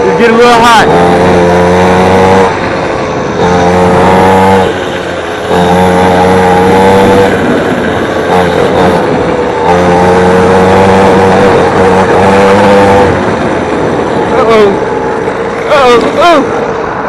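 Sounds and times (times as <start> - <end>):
dirt bike engine revving high: 0.0 - 17.0.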